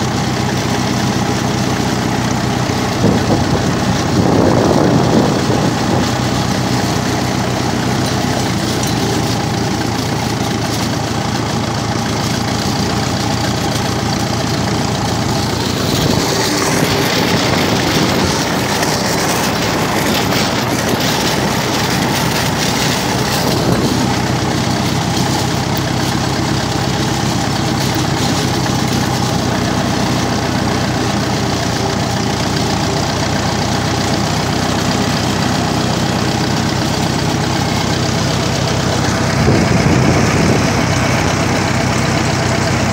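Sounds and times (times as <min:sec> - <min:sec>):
drag scraping over gravel: 0:00.0 - 0:42.9
tractor diesel engine running: 0:00.0 - 0:42.9.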